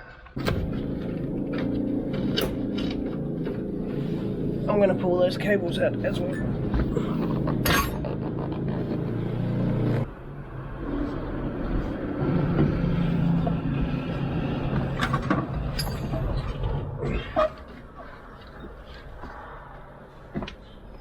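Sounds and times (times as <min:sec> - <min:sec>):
low engine-like hum: 0:00.4 - 0:20.1.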